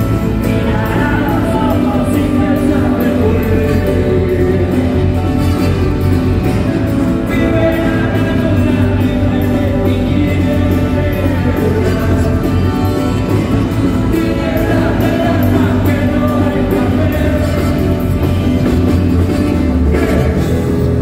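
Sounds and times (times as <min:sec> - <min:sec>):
drums: 0:00.0 - 0:21.0
electric guitars: 0:00.0 - 0:21.0
man singing: 0:00.0 - 0:21.0.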